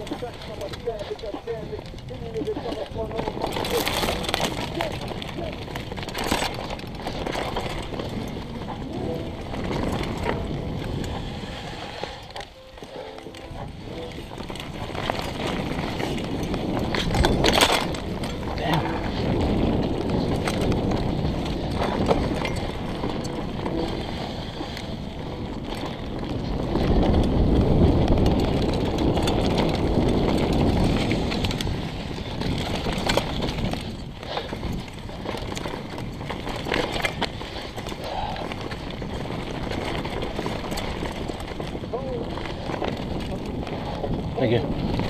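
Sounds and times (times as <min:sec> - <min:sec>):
bike rattling over bumps: 0:00.0 - 0:45.0
tyres crunching over gravel: 0:00.0 - 0:45.0
wind rumble on microphone: 0:00.0 - 0:45.0.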